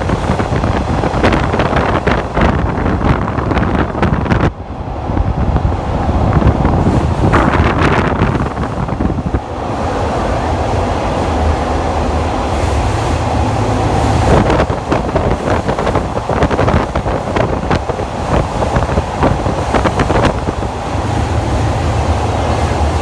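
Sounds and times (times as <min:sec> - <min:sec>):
train low rumble: 0:00.0 - 0:23.0
wind blowing on microphone: 0:00.0 - 0:23.0.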